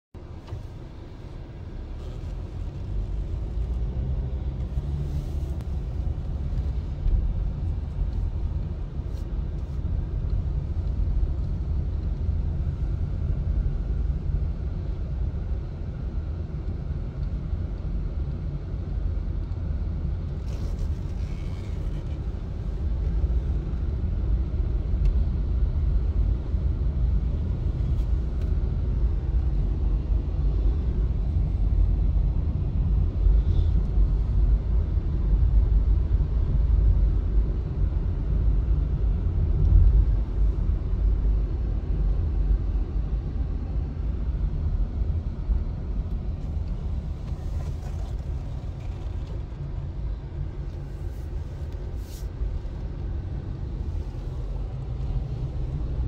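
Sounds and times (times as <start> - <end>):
car engine and tyres rumble: 0.1 - 56.0.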